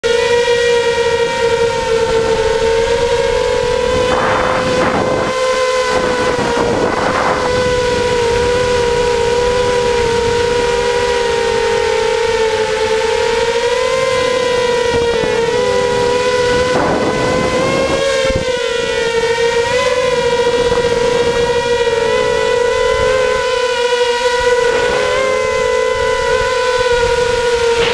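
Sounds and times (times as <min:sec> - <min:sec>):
quadcopter motors whining: 0:00.0 - 0:27.9.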